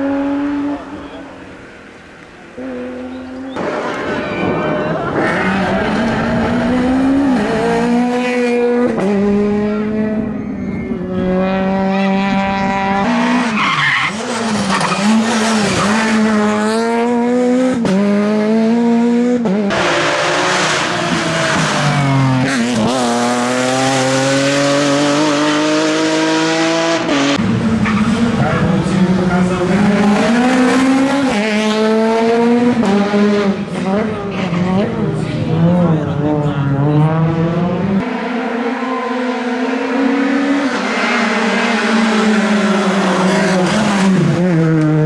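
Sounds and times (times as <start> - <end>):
rally car engines revving: 0.0 - 45.0
tyre and road noise: 0.0 - 45.0.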